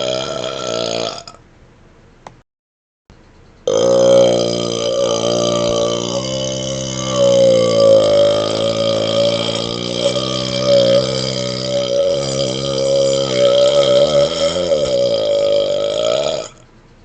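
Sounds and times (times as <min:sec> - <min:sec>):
man's long loud belch: 0:00.0 - 0:01.4, 0:03.7 - 0:16.6.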